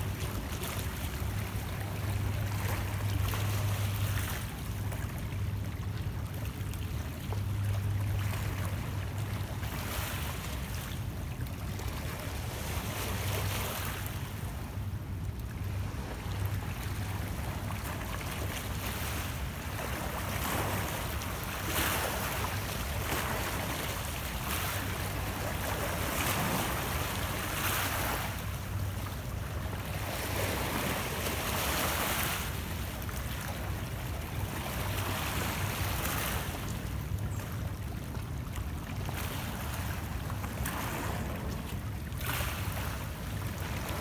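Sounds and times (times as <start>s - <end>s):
low steady rumble: 0.0s - 44.0s.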